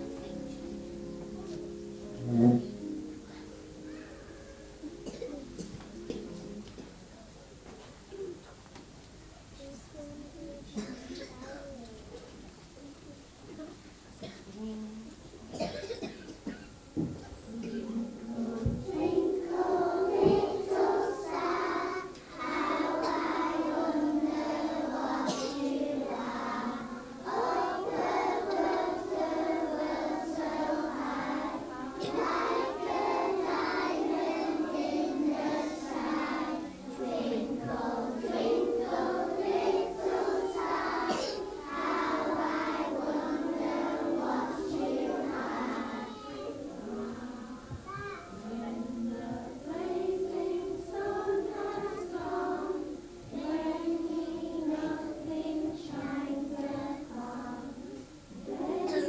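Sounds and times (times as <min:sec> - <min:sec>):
young children singing: 0:00.0 - 0:07.4, 0:09.6 - 0:59.0.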